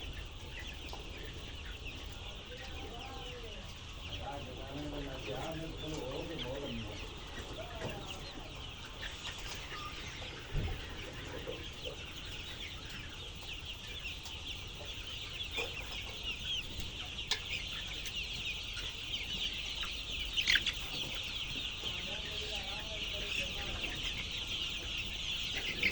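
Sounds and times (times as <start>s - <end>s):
chicks peeping in chorus: 0.0s - 25.9s.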